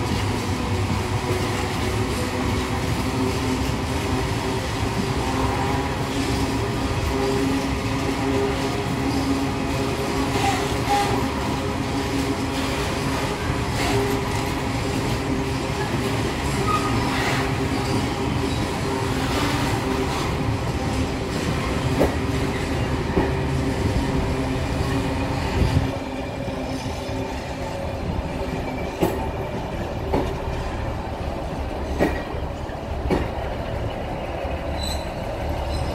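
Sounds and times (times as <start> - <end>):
freight train rumbling: 0.0 - 35.9
wheels clacking over rail joints: 0.0 - 35.9.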